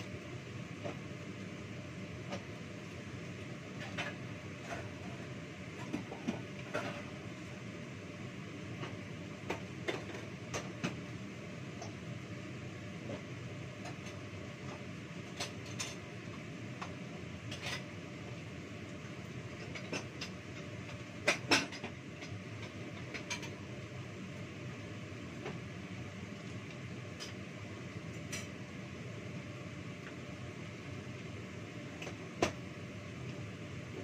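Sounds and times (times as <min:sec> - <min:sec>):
food frying in oil: 0:00.0 - 0:34.0.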